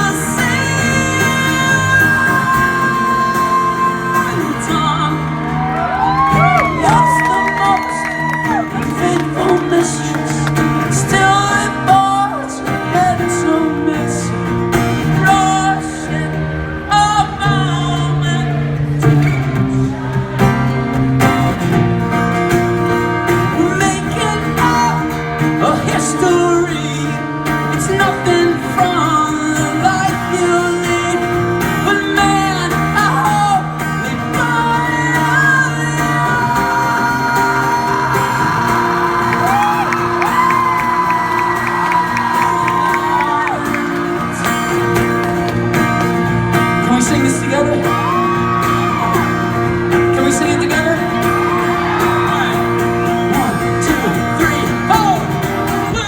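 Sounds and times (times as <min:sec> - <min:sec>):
person singing: 0:00.0 - 0:20.7, 0:23.4 - 0:45.0, 0:46.3 - 0:56.0
live band with guitar: 0:00.0 - 0:56.0.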